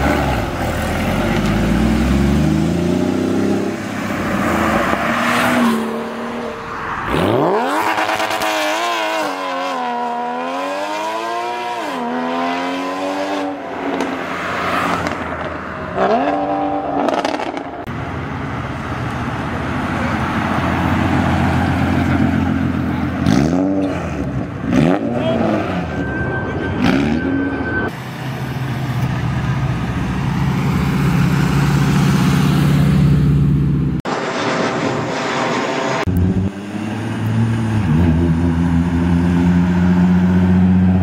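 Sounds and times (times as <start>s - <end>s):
car engines revving: 0.0s - 41.0s
cars accelerating past: 0.0s - 41.0s.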